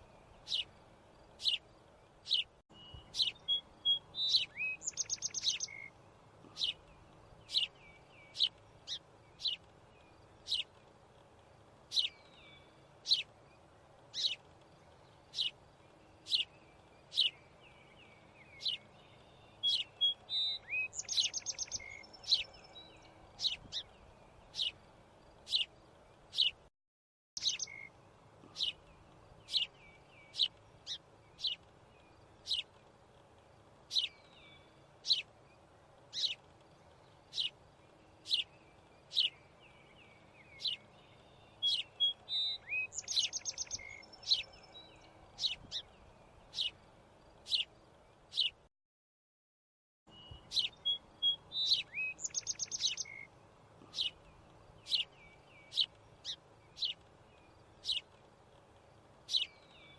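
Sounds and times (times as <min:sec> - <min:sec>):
small bird chirping: 0:00.0 - 0:26.7, 0:27.4 - 0:48.7, 0:50.1 - 0:59.9.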